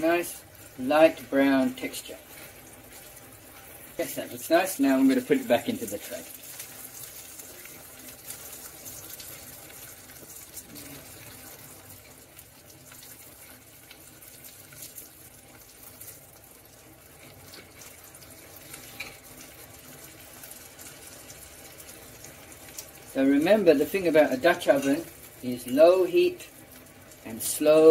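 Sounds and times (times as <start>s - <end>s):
chicken sizzling in oil: 0.0s - 27.9s.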